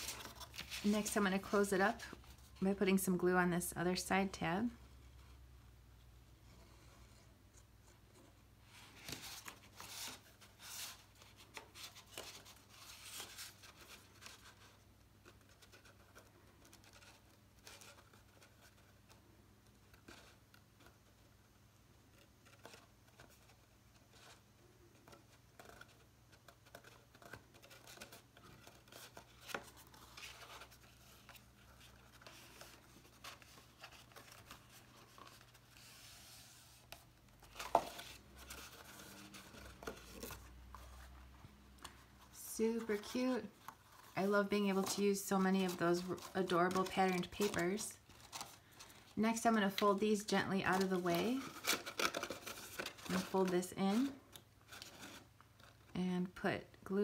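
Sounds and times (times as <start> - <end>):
cardstock rustling and rubbing: 0.0 - 3.2, 6.5 - 55.9.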